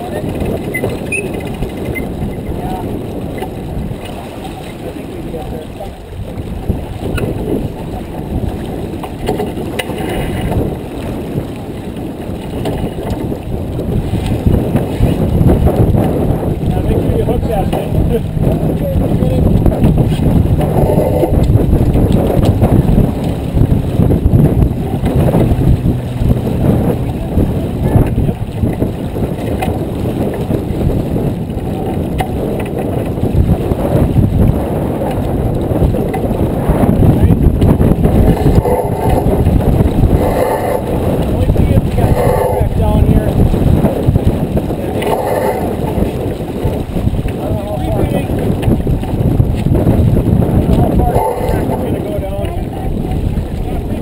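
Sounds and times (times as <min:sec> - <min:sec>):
water rushing past hull: 0:00.0 - 0:54.0
wind buffeting microphone: 0:00.0 - 0:54.0.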